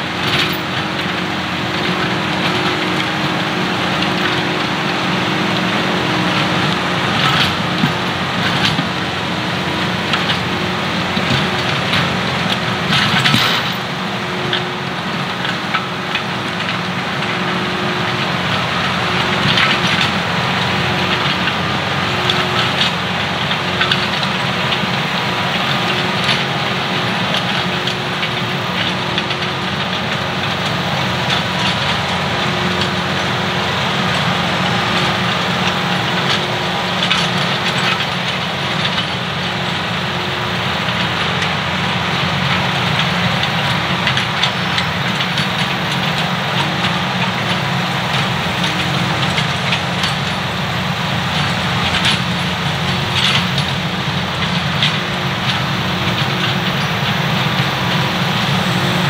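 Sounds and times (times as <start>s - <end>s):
rototiller churning soil: 0.0s - 59.0s
tractor diesel engine running: 0.0s - 59.0s.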